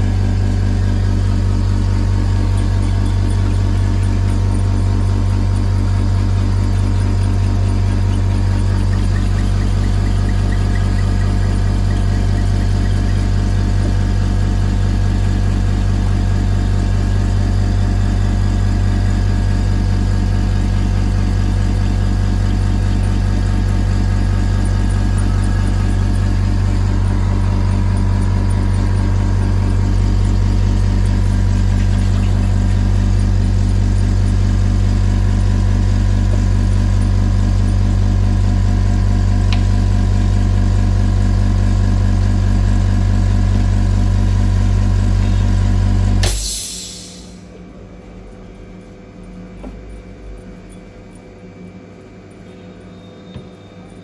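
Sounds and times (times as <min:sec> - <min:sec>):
electric machine hum: 0:00.0 - 0:54.0.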